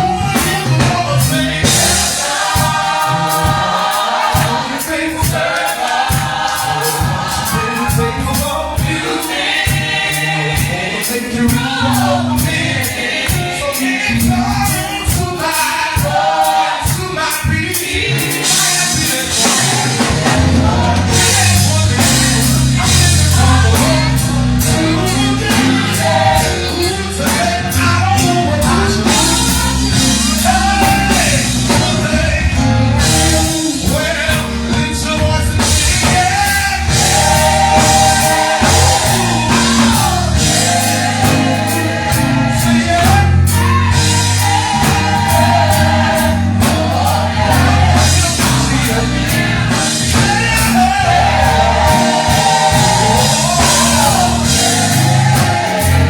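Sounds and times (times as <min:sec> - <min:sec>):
band with bass and drums: 0:00.0 - 0:56.0
gospel singing voices: 0:00.0 - 0:56.0.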